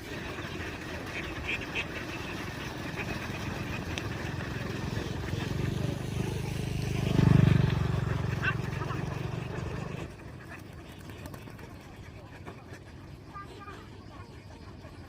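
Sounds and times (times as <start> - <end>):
duck quacks: 0.0 - 7.0, 7.9 - 15.0
engine running with fast pulse: 0.0 - 13.3.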